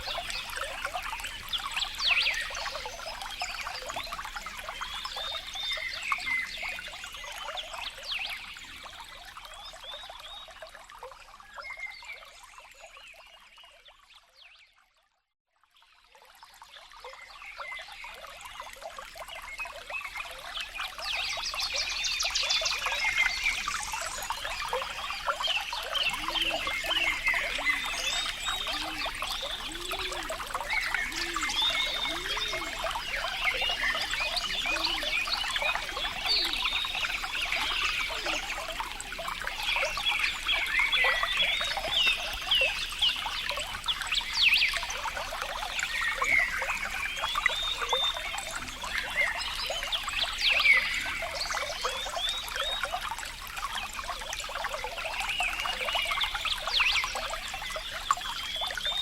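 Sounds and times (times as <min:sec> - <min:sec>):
trickling bubbling water: 0:00.0 - 0:15.0, 0:15.6 - 0:59.0.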